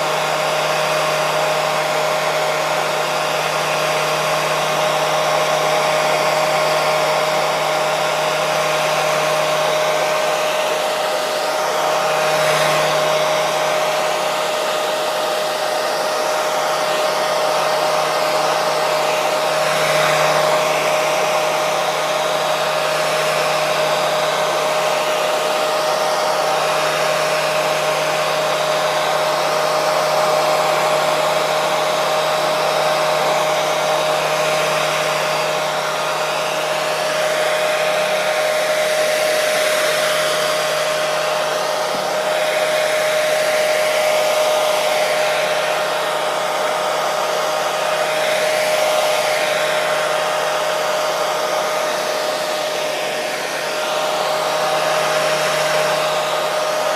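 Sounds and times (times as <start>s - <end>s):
hair dryer running: 0.0s - 56.9s.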